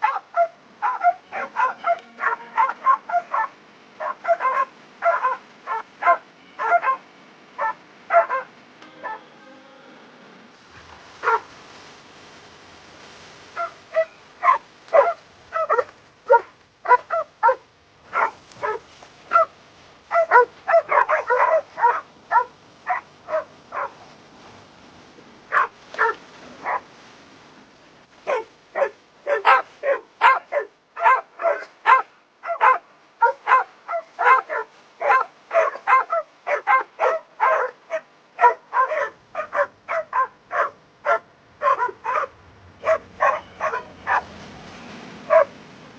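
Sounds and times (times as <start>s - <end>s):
dog barking: 0.0s - 9.2s, 11.2s - 11.5s, 13.6s - 24.0s, 25.5s - 26.9s, 28.3s - 44.3s, 45.3s - 45.5s.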